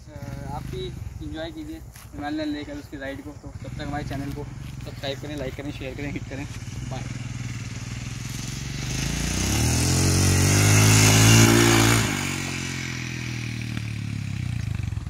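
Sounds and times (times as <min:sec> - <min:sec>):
motorcycle engine revving past: 0:02.5 - 0:15.0.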